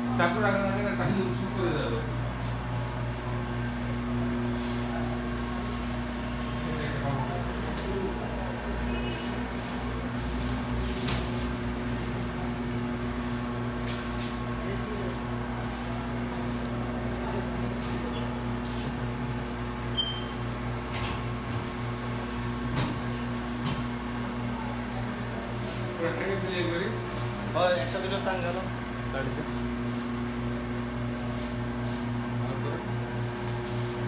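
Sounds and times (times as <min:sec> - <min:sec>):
refrigeration units humming: 0:00.0 - 0:34.0.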